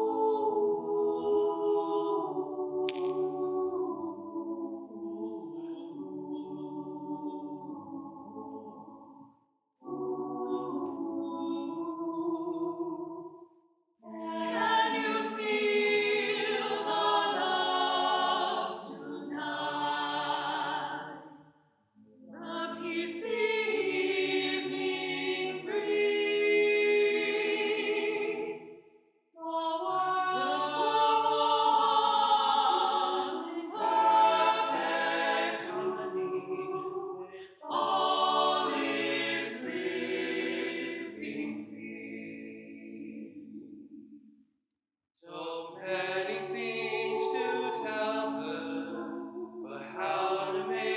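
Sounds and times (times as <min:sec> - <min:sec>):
a cappella group singing harmony: 0:00.0 - 0:13.2, 0:14.0 - 0:21.4, 0:22.2 - 0:28.7, 0:29.4 - 0:43.9, 0:45.3 - 0:50.9.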